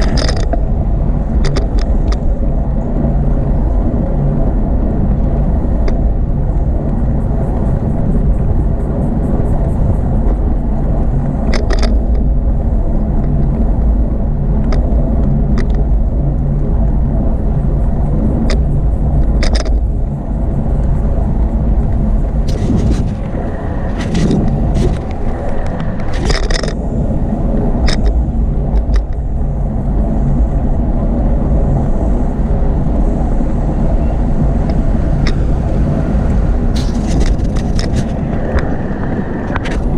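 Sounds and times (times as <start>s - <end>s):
bicycle clicks and rattles: 0.0s - 4.4s, 5.0s - 30.4s, 33.4s - 39.9s
road traffic noise: 0.0s - 39.9s
wind buffeting microphone: 0.0s - 39.9s.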